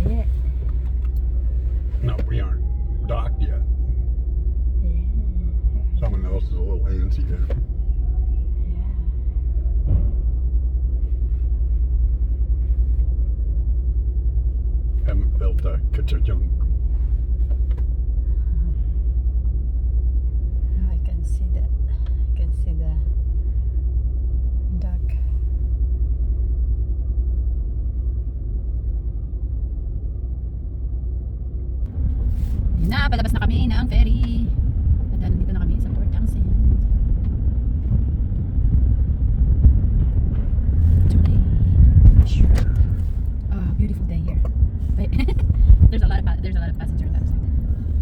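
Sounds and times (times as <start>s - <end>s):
faint steady hum: 0.0s - 48.0s
ferry engines rumbling: 0.0s - 48.0s.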